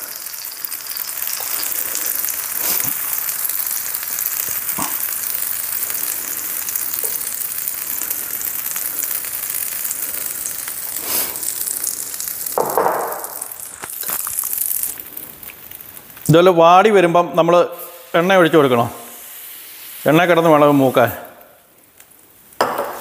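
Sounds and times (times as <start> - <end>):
batter sizzling on griddle: 0.0 - 23.0.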